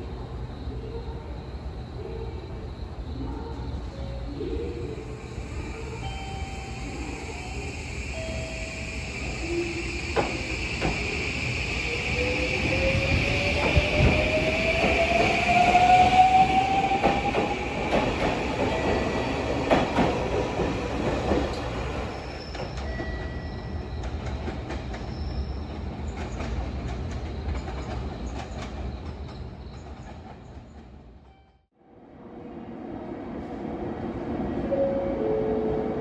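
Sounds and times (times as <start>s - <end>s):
station platform ambience: 0.0s - 36.0s.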